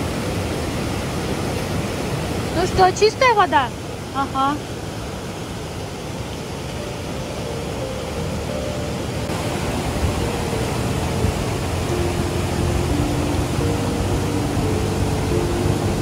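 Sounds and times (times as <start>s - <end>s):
river and waterfall rushing: 0.0s - 16.0s.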